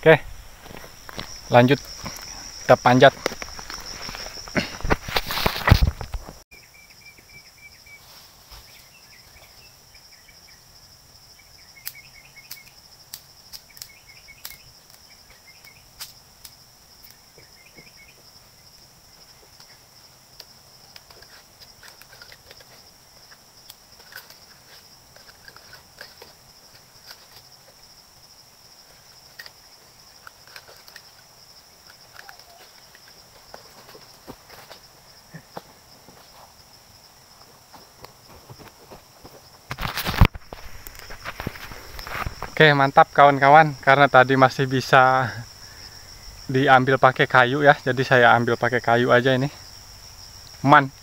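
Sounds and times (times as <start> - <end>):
insect drone: 0.0 - 51.0.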